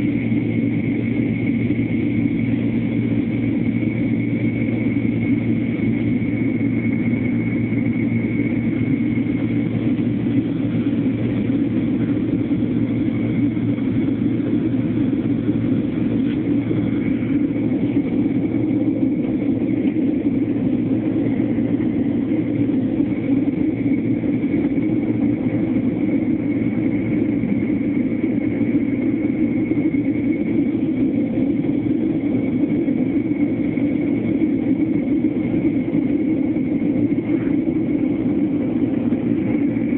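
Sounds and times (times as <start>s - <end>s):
jet engines droning in cabin: 0.0s - 39.9s.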